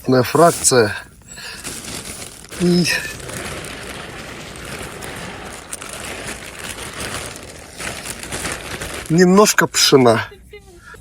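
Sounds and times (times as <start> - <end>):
dry groundbait rustling: 0.4 - 9.7.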